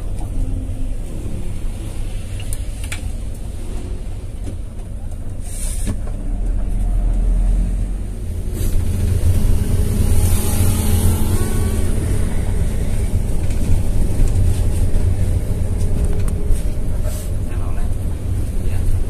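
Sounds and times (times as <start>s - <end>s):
bus engine rumble: 0.0s - 19.0s
road noise: 0.0s - 19.0s.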